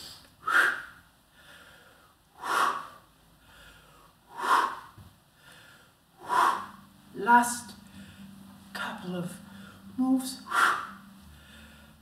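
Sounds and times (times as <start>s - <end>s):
faint breathing: 0.0s - 7.0s, 7.8s - 8.7s, 9.4s - 12.0s.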